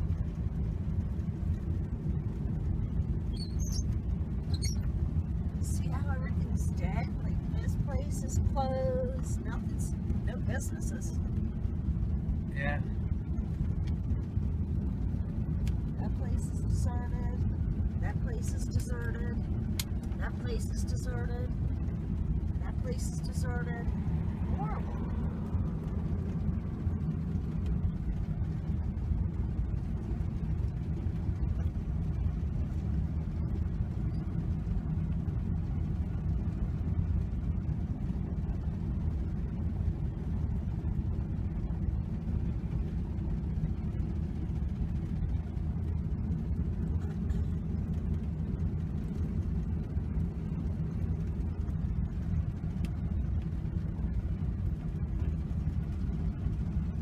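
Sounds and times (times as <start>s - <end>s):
vehicle engine and road noise: 0.0s - 57.0s.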